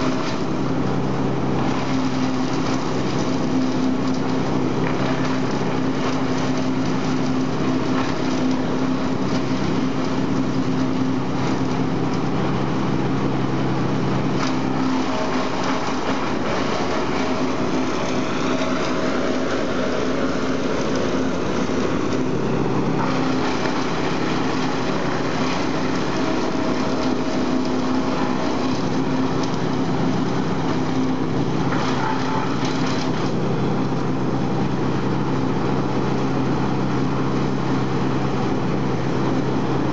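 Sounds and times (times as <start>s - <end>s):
wood chipper engine hum: 0.0s - 39.9s.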